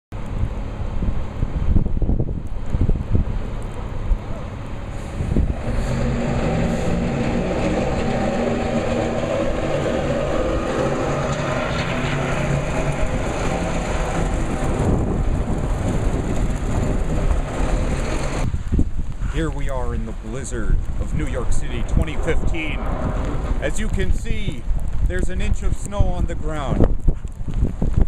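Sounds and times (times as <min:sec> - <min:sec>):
vehicle engine humming: 0:00.2 - 0:25.2.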